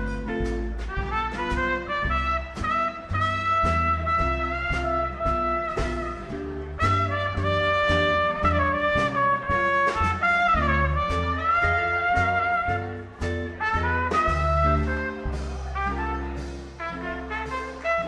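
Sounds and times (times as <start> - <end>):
drums keeping time: 0.0 - 18.0
upright bass walking: 0.0 - 18.0
lead horn holding long notes: 0.9 - 18.0.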